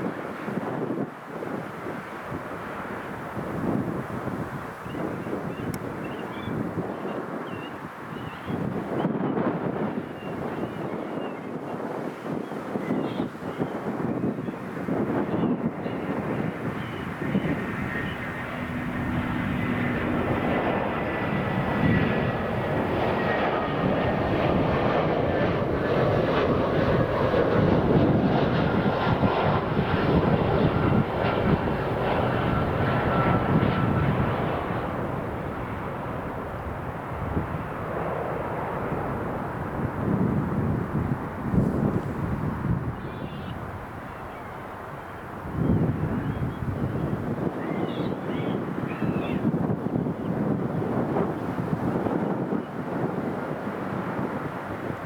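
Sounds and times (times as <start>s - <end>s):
jet airliner engines passing: 0.0s - 55.0s.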